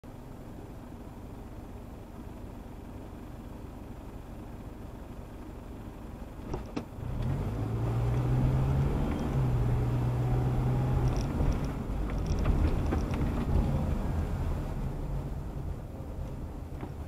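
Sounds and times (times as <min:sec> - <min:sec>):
car engine drone from inside: 0:00.1 - 0:17.0.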